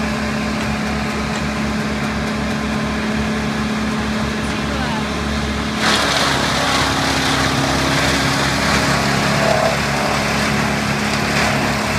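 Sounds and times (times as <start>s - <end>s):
wood chipper grinding: 0.0s - 11.9s.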